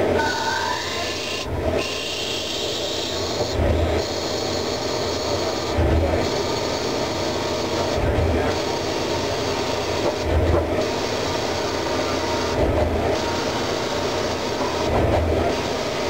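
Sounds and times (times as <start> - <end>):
lathe machine hum: 0.0 - 16.0.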